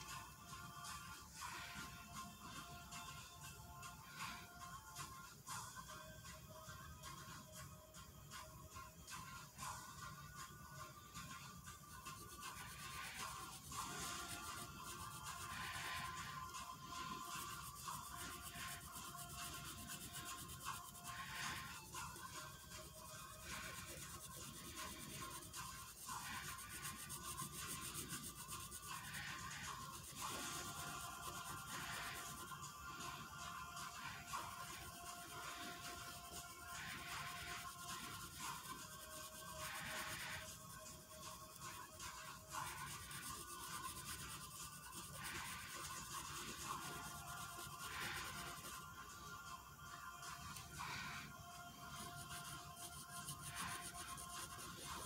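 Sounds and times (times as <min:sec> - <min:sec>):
felt-tip marker scratching paper: 0:00.0 - 0:55.0.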